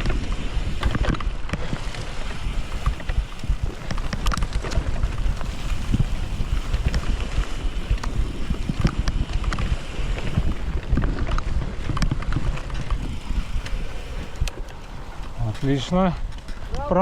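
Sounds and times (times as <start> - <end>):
bike rattling over bumps: 0.0 - 17.0
bike tyre noise: 0.0 - 17.0
wind rumbling on microphone: 0.0 - 17.0.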